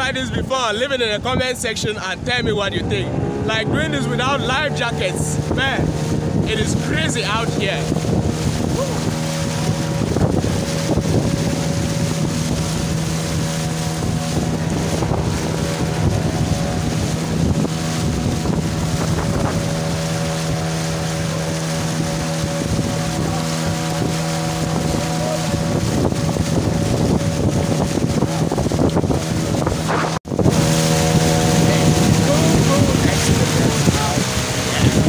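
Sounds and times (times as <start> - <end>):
boat motor running: 0.0 - 35.0
water splashing along hull: 0.0 - 35.0
wind buffeting microphone: 0.0 - 35.0.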